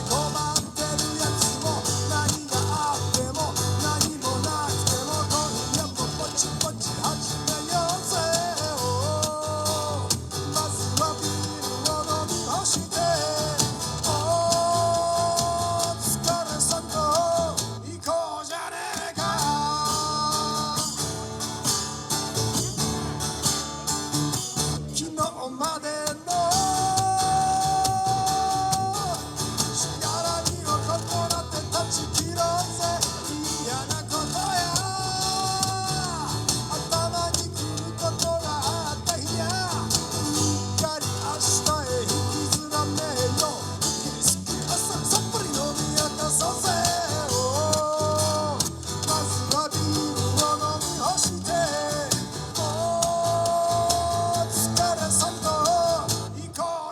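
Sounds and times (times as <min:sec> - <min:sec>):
man singing long notes: 0:00.0 - 0:21.0, 0:25.0 - 0:56.9
strummed acoustic guitar: 0:00.0 - 0:56.8.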